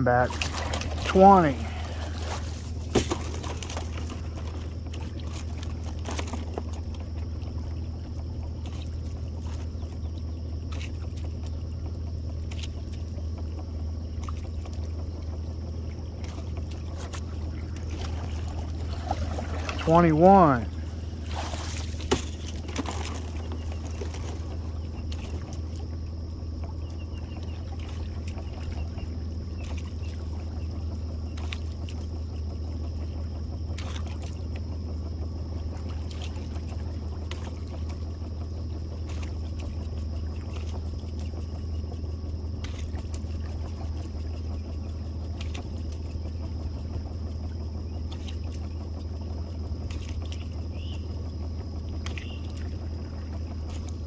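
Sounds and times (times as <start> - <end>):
boat motor idling: 0.0 - 54.0.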